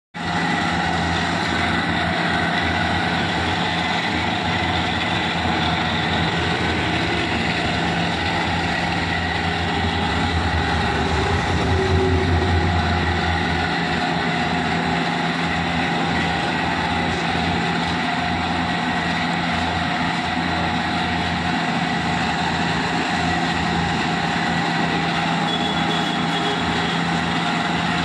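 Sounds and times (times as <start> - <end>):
gas burner roaring and hissing: 0.2 - 28.0.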